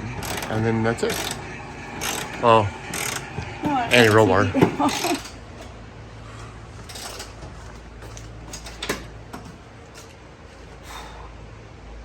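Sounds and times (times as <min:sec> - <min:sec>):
hand tools clicking on metal: 0:00.0 - 0:10.2.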